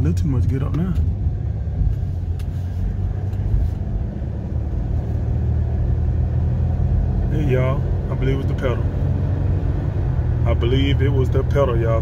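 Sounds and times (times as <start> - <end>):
car engine accelerating: 0.0 - 12.0
road rumble inside car: 0.0 - 12.0.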